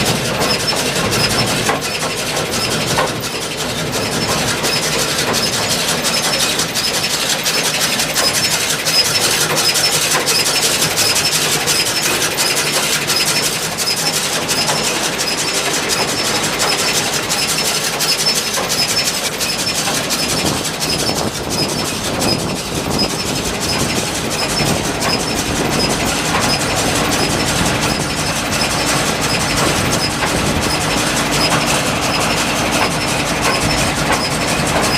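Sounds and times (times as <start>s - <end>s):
baler mechanical clatter: 0.0s - 34.9s
tractor engine running: 0.0s - 34.9s.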